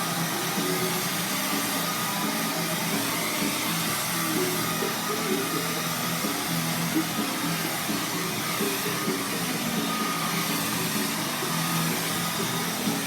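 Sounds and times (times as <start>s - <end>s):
hair dryer running: 0.0s - 13.0s
music playing: 0.0s - 13.0s.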